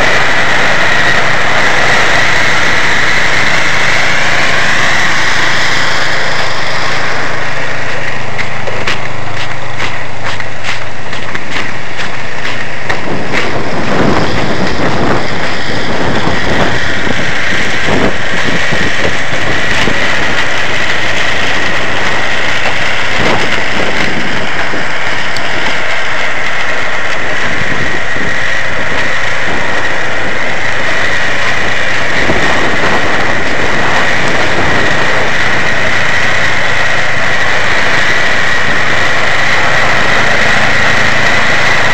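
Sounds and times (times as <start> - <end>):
rough crackling noise: 0.0 - 41.9
snowblower engine running: 0.0 - 41.9.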